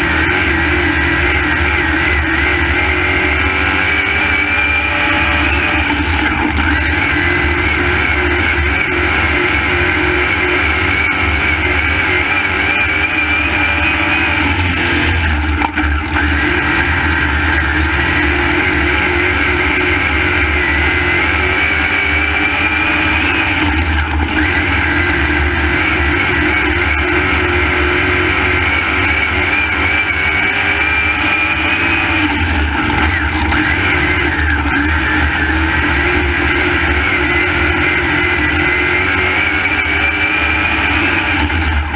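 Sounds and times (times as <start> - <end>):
race car engine running hard: 0.0 - 41.9.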